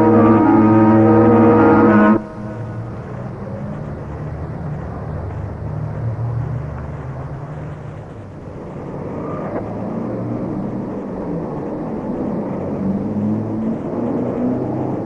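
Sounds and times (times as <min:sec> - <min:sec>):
low humming tones: 0:00.0 - 0:15.0
low mechanical rumble: 0:00.0 - 0:15.0
noisy hiss: 0:00.0 - 0:15.0.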